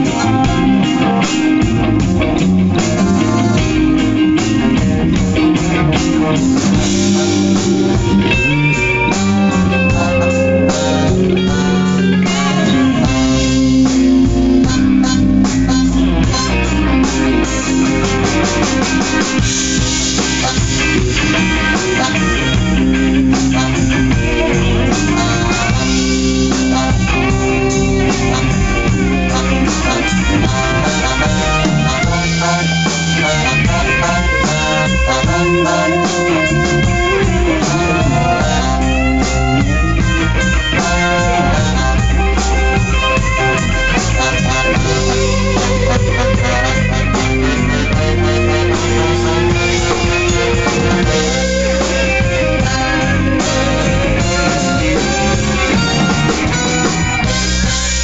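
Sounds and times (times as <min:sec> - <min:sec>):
electric guitars playing blues: 0:00.0 - 0:58.0
steady beat: 0:00.0 - 0:58.0.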